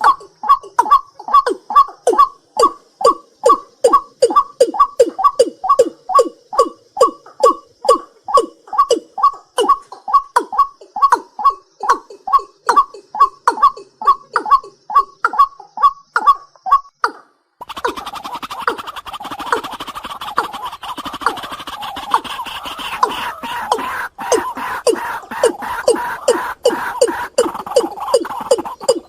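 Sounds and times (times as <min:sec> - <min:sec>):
night bird calling: 0:00.0 - 0:29.0.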